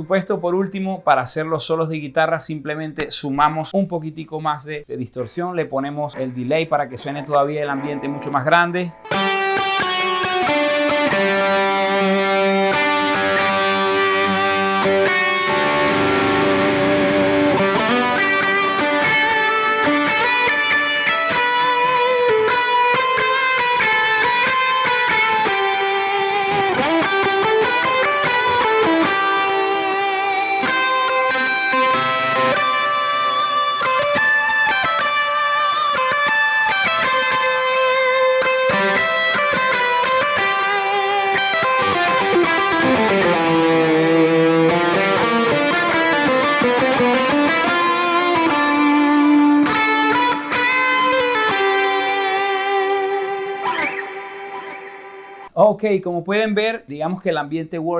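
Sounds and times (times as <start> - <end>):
distorted electric guitar lead: 6.1 - 55.6.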